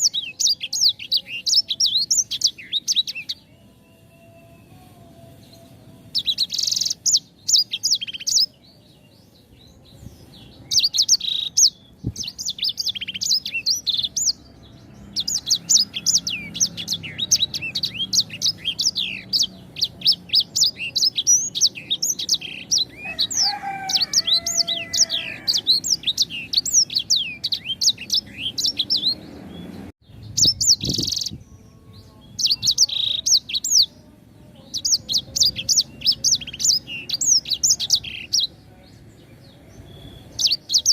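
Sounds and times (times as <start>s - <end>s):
finch chirping song: 0.0s - 40.9s.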